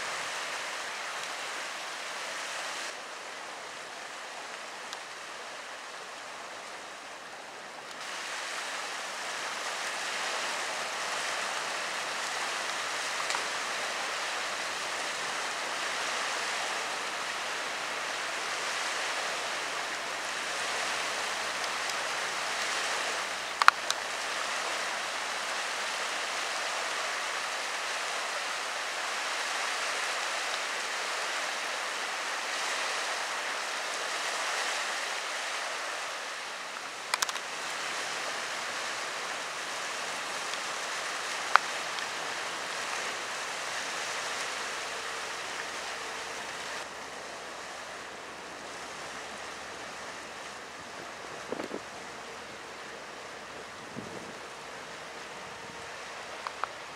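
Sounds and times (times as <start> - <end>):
outdoor hiss: 0.0 - 56.9.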